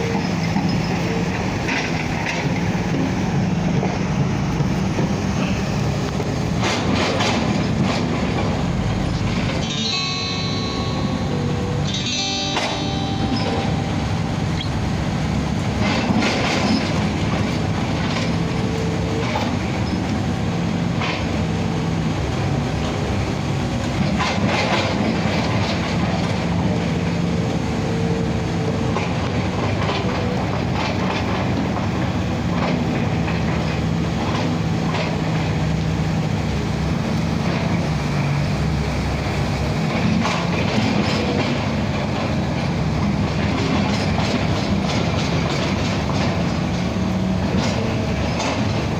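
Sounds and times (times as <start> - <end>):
crane engine running: 0.0 - 48.9.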